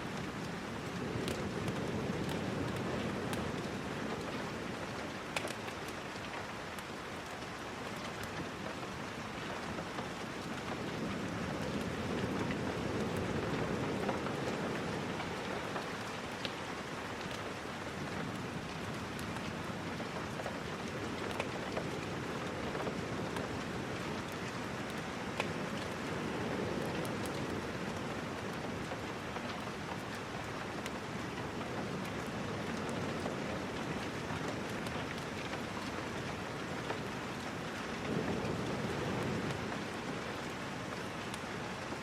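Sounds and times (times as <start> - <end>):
steady rain hiss: 0.0 - 42.0.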